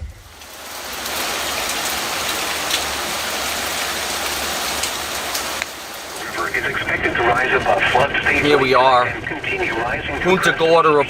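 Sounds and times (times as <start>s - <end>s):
heavy rain and wind: 0.0s - 11.0s.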